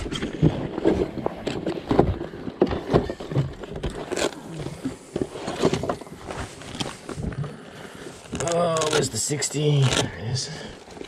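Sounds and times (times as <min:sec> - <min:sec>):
plastic rustling: 0:00.0 - 0:11.0.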